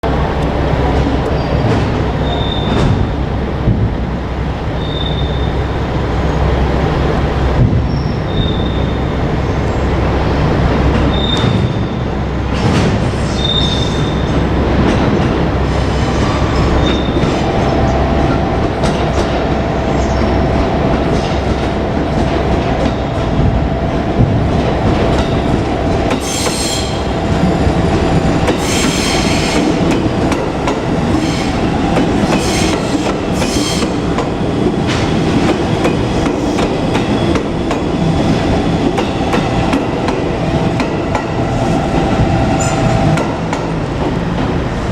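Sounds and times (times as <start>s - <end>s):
electric train rumbling on track: 0.0s - 44.9s.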